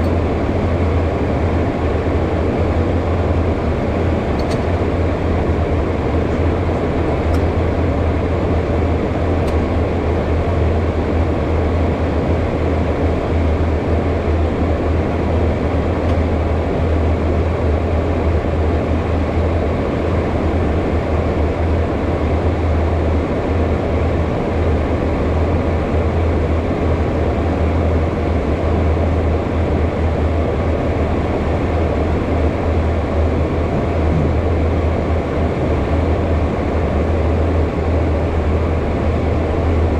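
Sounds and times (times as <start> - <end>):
jet cockpit engine and airflow noise: 0.0 - 39.9.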